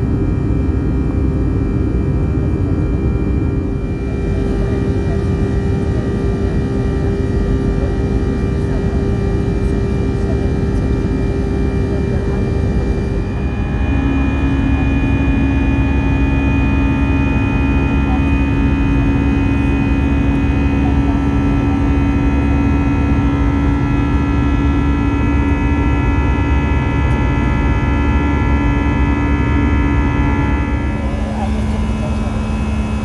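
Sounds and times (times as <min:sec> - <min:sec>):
jet engine drone and airflow: 0:00.0 - 0:33.0
strong hum: 0:00.0 - 0:33.0.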